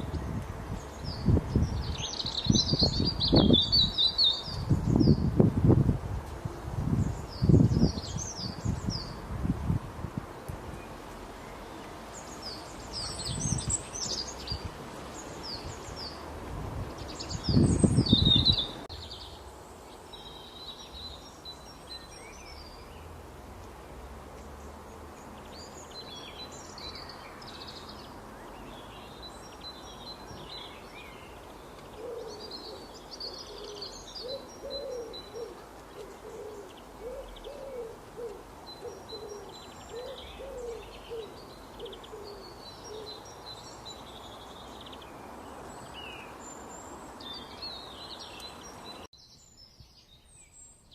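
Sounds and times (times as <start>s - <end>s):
small birds chirping: 0.0s - 5.4s, 10.7s - 50.9s.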